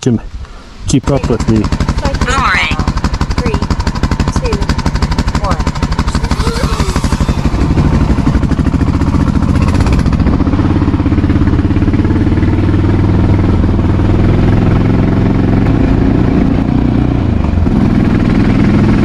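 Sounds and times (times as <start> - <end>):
motorcycle engine running: 0.9 - 19.0.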